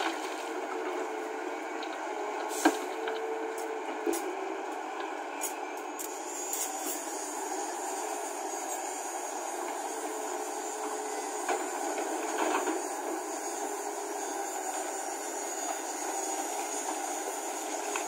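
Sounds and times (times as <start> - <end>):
excavator engine and hydraulics: 0.0 - 18.0.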